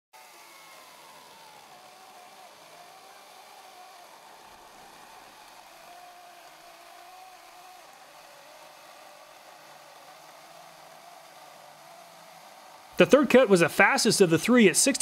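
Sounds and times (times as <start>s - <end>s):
electric chainsaw cutting wood: 0.2s - 14.0s.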